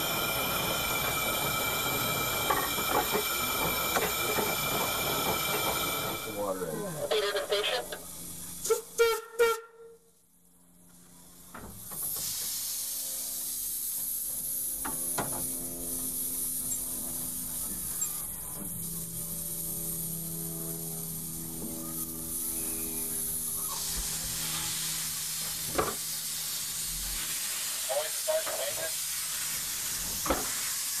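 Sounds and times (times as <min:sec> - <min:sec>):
steam hissing: 0:00.0 - 0:07.2, 0:11.7 - 0:31.0.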